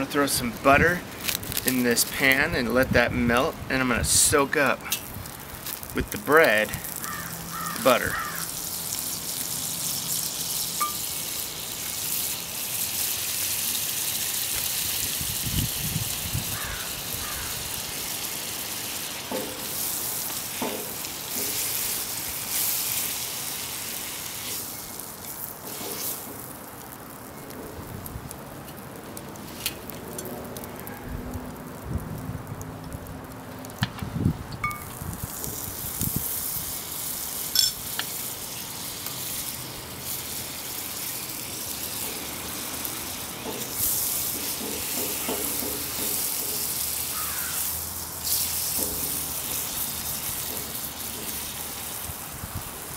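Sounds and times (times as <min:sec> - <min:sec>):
butter sizzling in a skillet: 0:00.0 - 0:31.8, 0:34.8 - 0:52.9.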